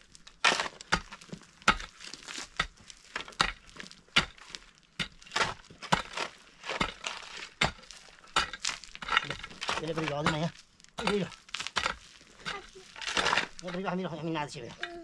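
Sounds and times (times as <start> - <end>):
pick and shovel digging earth: 0.0 - 15.0.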